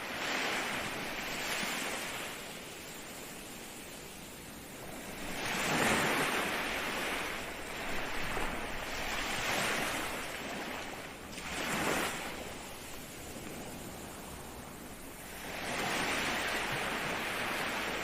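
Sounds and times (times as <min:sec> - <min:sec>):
ocean waves breaking on shore: 0:00.0 - 0:18.0.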